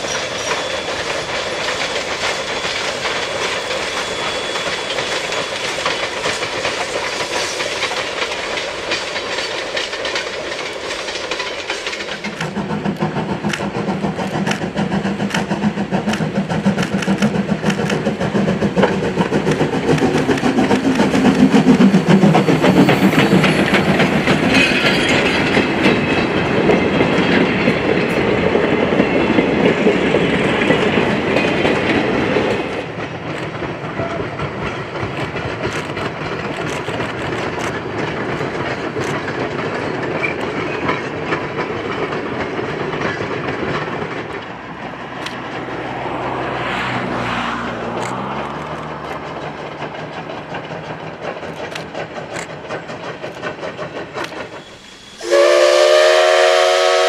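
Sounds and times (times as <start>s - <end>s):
wheels clicking over rail joints: 0.0s - 54.7s
steam locomotive passing: 0.0s - 57.0s.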